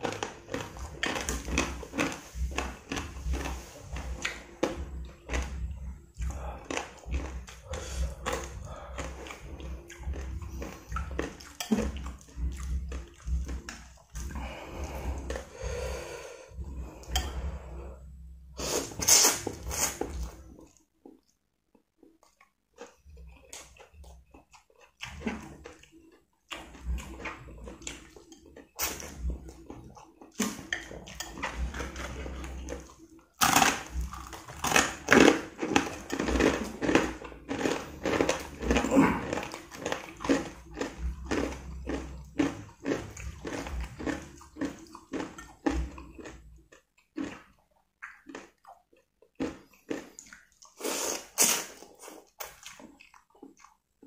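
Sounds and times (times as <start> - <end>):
person slurping and chewing noodles: 0.0 - 54.0.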